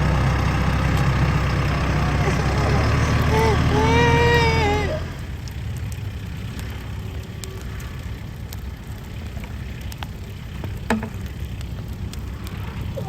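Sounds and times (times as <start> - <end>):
bonfire crackling and popping: 0.0 - 13.0
low steady rumble: 0.0 - 13.0.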